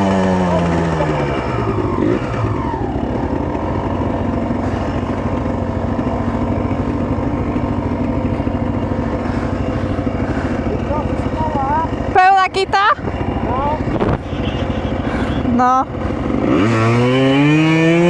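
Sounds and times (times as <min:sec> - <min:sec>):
quad engine idling: 0:00.0 - 0:18.0.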